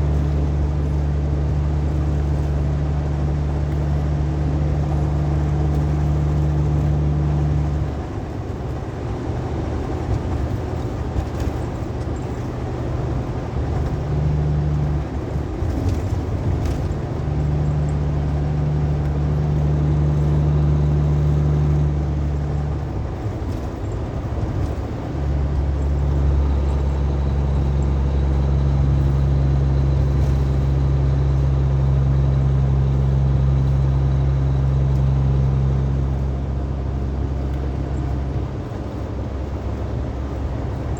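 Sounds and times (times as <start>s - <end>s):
road noise: 0.0s - 40.9s
truck engine drone: 0.0s - 40.9s.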